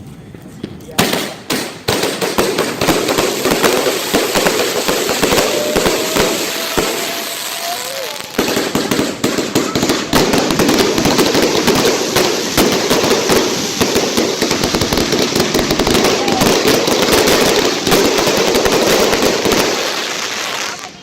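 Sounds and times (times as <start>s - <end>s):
firework cracks and pops: 0.7s - 21.0s.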